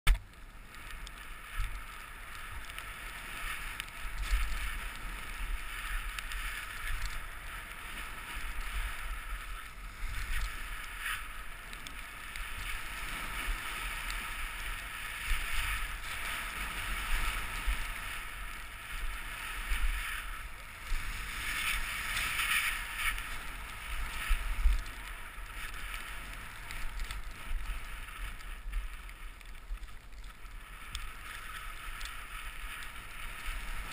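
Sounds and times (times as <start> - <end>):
wind rumbling on microphone: 0.1 - 33.9
snowboard sliding over snow: 0.3 - 33.9.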